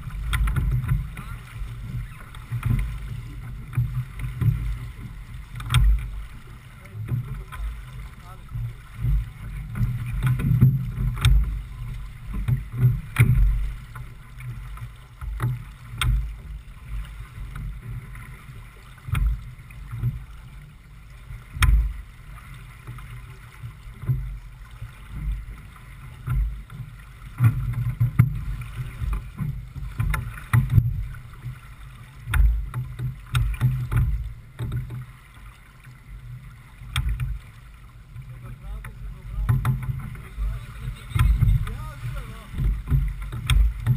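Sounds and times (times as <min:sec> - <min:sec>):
water rushing along hull: 0:00.0 - 0:43.9.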